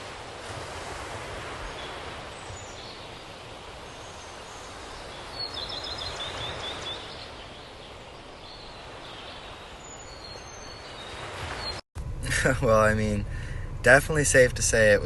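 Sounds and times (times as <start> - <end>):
outdoor ambient noise: 0.0 - 15.0.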